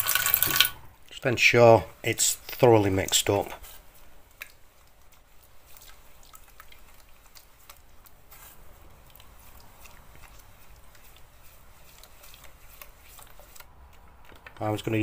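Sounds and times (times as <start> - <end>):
wet paint squishing: 2.5 - 15.0.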